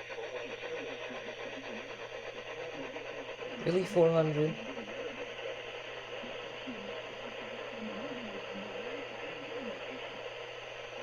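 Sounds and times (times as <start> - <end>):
faint radio voice: 0.0 - 11.0
radio hiss and static: 0.0 - 11.0.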